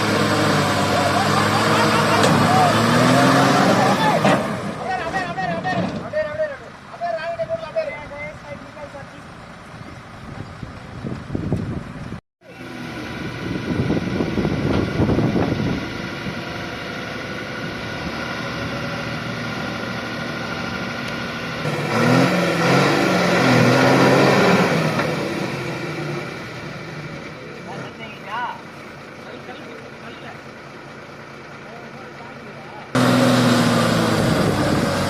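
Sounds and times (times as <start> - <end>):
heavy vehicle engine straining: 0.0 - 7.7, 8.3 - 35.0.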